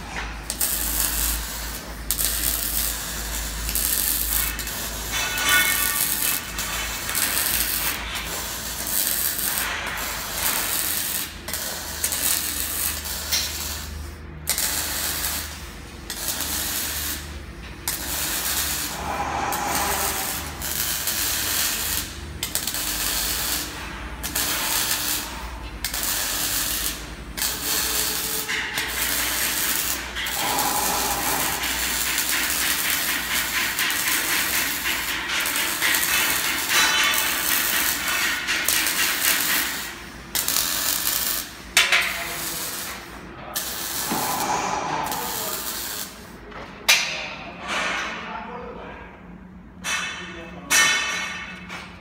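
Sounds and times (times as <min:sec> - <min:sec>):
crackling welding arc: 0:00.0 - 0:46.4.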